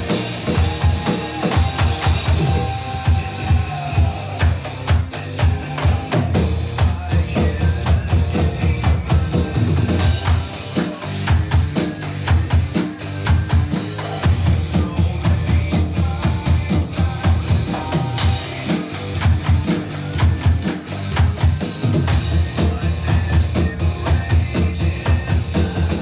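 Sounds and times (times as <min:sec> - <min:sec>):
electronic drum kit rock beat: 0:00.0 - 0:26.0
rock backing track: 0:00.0 - 0:26.0.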